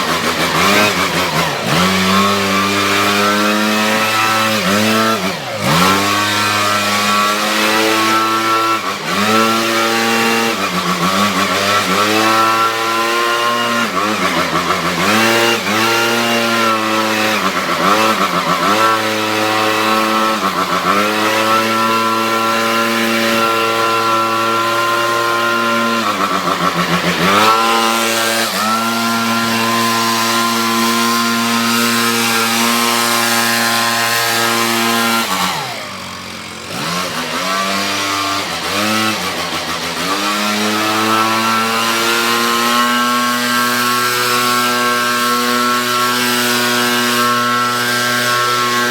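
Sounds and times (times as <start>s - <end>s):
small engine revving: 0.0s - 48.9s.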